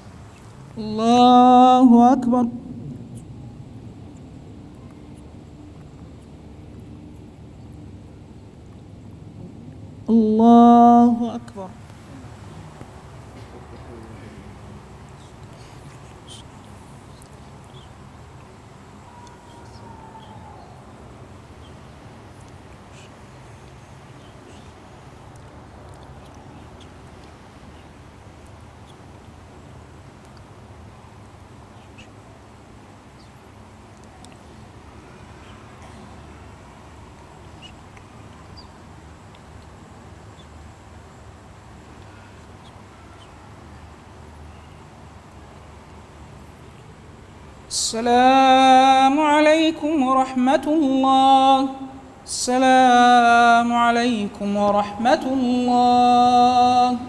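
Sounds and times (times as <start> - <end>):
electric fans humming: 0.0 - 57.0.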